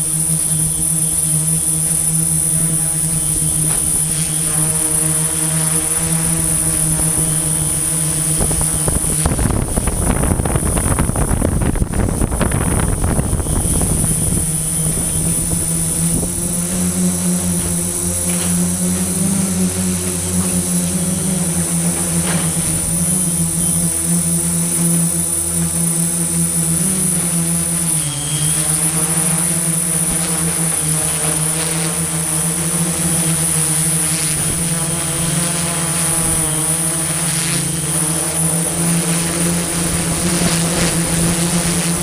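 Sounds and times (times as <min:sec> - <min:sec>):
machinery engine humming and whining: 0:00.0 - 0:42.0
rough mechanical noise: 0:00.0 - 0:42.0.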